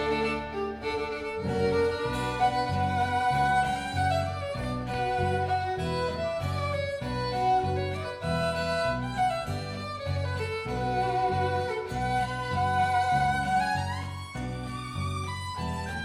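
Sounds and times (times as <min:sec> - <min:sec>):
low chordal accompaniment: 0:00.0 - 0:14.9
violin playing slow melody: 0:00.0 - 0:16.0.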